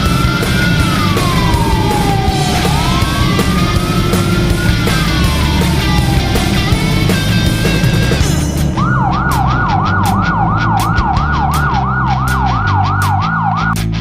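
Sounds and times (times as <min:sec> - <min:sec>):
police siren: 0:00.0 - 0:13.8
rock music: 0:00.0 - 0:14.0.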